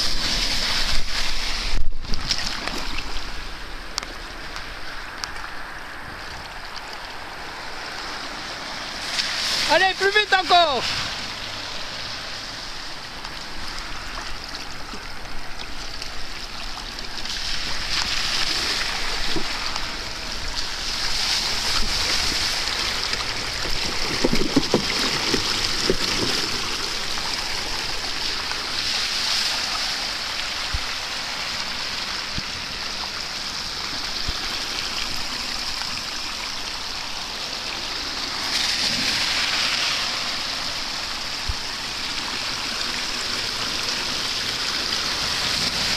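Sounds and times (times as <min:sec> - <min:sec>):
floodwater rushing into storm drain: 0:00.0 - 0:45.9.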